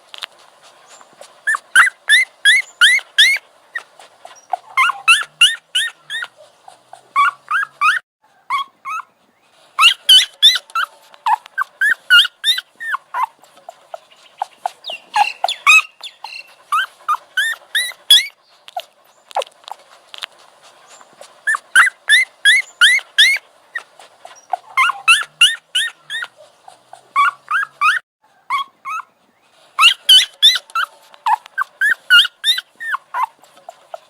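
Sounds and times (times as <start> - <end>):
puppy yipping and whimpering: 0.8 - 9.2, 9.8 - 19.6, 20.9 - 29.2, 29.8 - 34.0.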